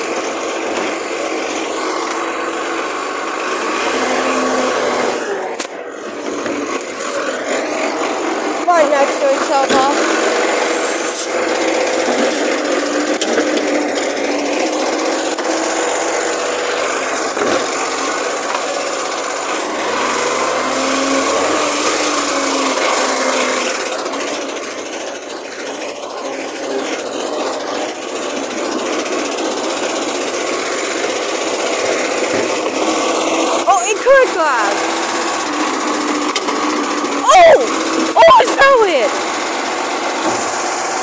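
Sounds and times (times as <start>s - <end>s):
garbage truck engine rattling: 0.0s - 41.0s.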